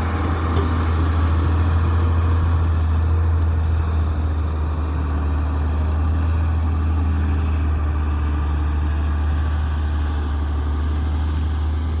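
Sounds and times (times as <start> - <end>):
excavator diesel engine drone: 0.0 - 12.0.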